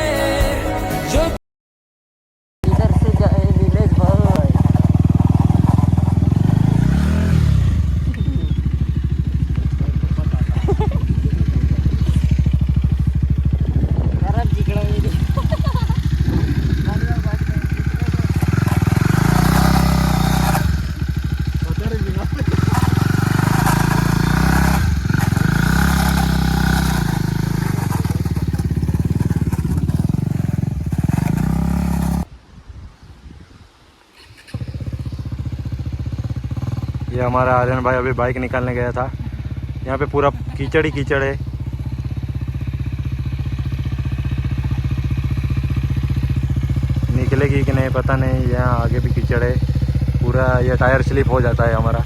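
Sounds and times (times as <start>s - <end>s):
motorcycle engine revving: 2.6s - 32.3s, 34.2s - 52.0s.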